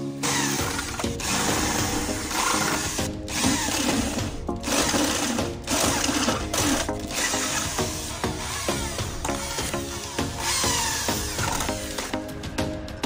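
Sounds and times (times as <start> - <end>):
background music: 0.0 - 13.0
electric drill cutting sheet metal: 0.2 - 12.2.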